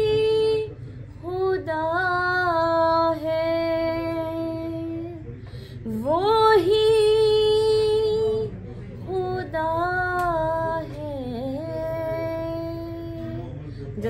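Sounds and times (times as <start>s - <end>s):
woman singing devotional song: 0.0s - 13.5s.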